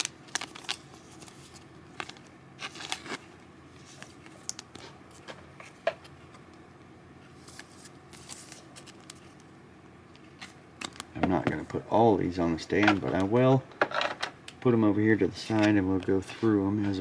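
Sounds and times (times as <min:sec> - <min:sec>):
cards and plastic sleeves rustling: 0:00.0 - 0:06.6, 0:07.3 - 0:09.5, 0:10.2 - 0:17.0.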